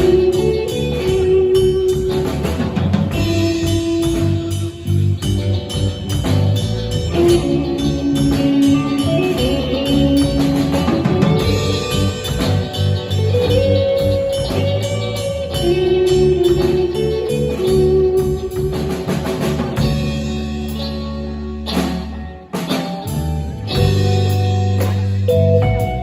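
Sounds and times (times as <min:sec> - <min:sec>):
rock band playing: 0:00.0 - 0:26.0
sliding lead guitar notes: 0:00.0 - 0:26.0.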